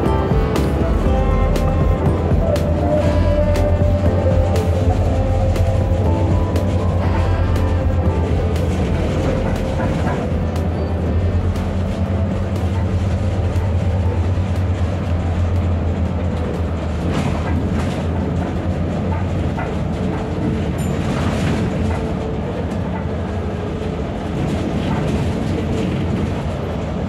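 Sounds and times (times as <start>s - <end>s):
bus engine drone: 0.0s - 27.0s
road noise: 0.0s - 27.0s
bus cabin rattling: 1.8s - 27.0s.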